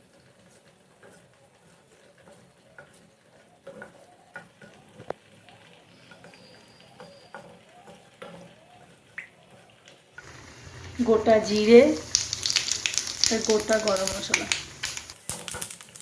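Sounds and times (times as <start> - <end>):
leaves sizzling in oil: 0.0 - 16.0.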